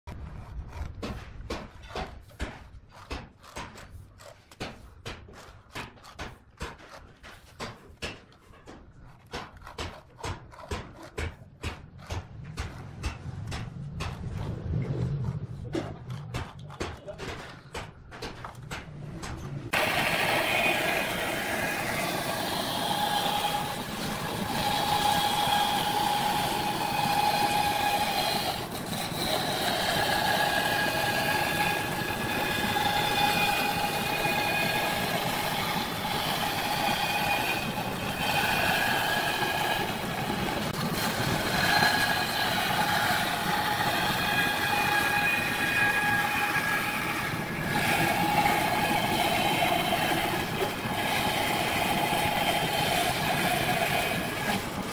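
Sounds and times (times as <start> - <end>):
band saw cutting wood: 0.1 - 14.6, 19.7 - 54.9.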